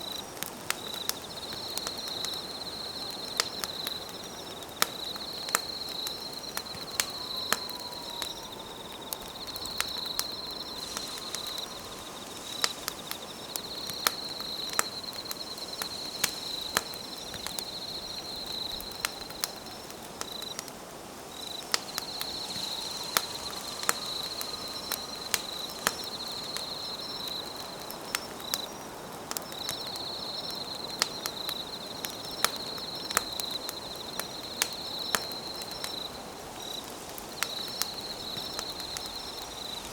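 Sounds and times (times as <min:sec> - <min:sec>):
campfire crackling and popping: 0:00.0 - 0:39.9
insects chirping trill: 0:00.0 - 0:39.9.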